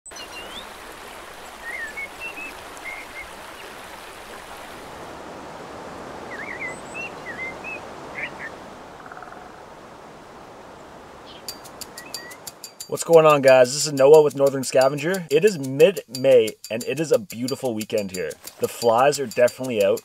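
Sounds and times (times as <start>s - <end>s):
songbirds chirping: 0.1s - 20.0s.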